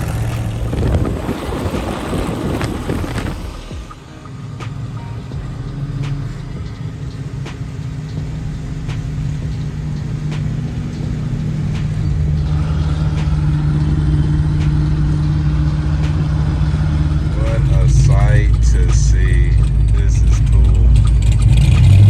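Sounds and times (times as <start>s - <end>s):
car engine drone from cabin: 0.0s - 22.0s.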